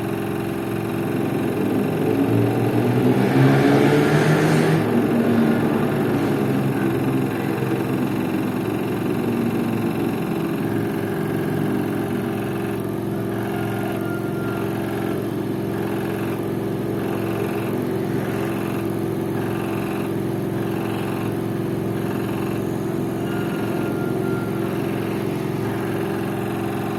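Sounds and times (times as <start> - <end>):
washing machine spin hum: 0.0 - 26.9.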